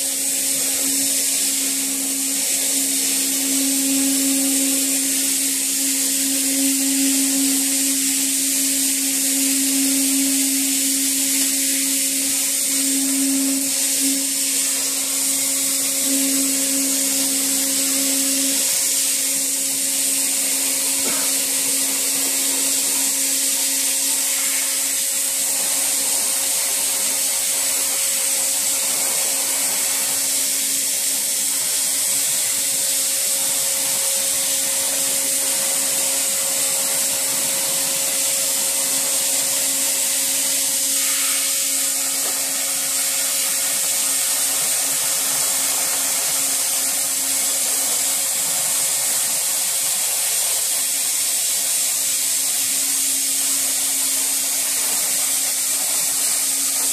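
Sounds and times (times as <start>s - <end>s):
low hum: 0.0s - 49.1s
cutting torch hissing: 0.0s - 56.9s.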